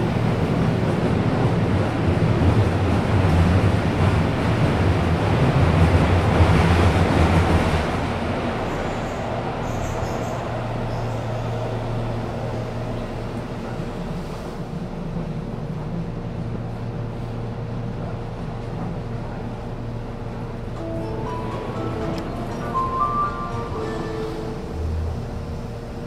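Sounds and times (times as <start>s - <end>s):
train electrical hum: 0.0s - 26.0s.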